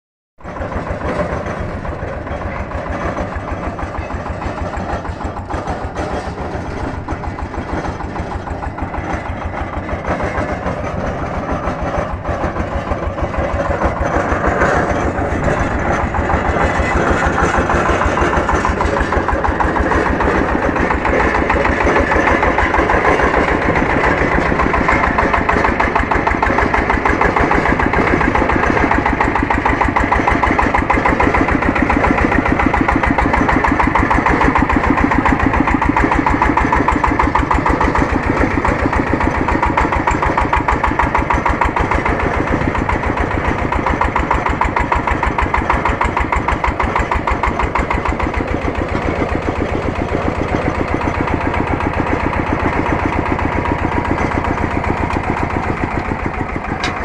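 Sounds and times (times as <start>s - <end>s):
drilling rig engine running: 0.4s - 57.0s.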